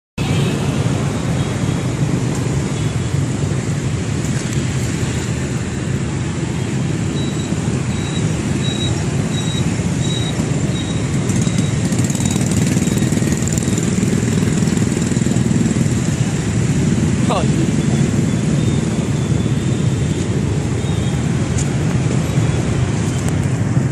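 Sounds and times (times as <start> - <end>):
road traffic hum: 0.2 - 23.9.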